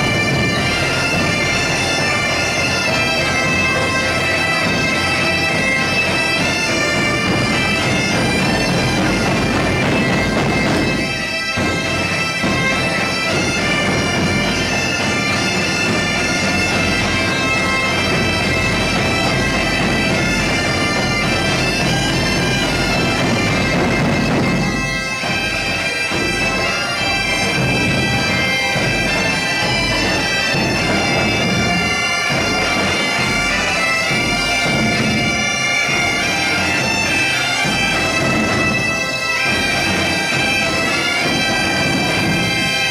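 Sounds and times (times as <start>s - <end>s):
bagpipes playing folk tune: 0.0s - 42.9s.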